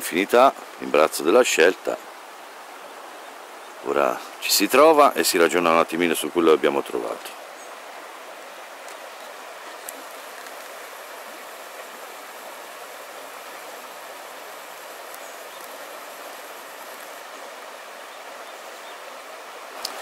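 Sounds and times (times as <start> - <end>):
river water over gravel: 0.0 - 20.0.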